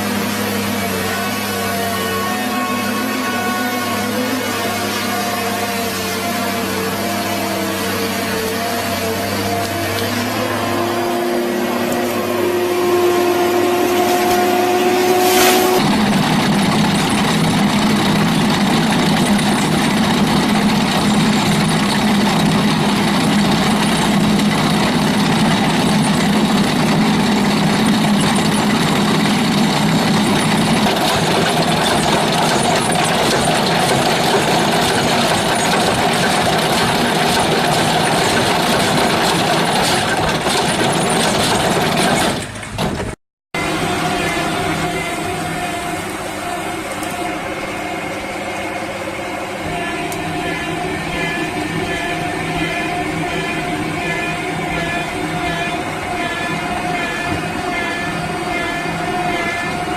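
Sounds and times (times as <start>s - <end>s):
steady whine: 0.0s - 40.4s, 43.6s - 59.9s
heavy machine engine under load: 0.0s - 59.9s.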